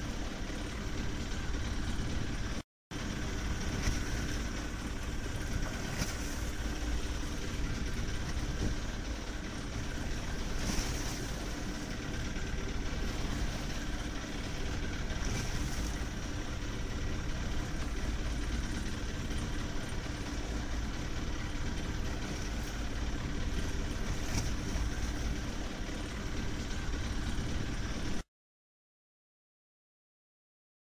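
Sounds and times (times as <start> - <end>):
boat engine idling: 0.0 - 28.2.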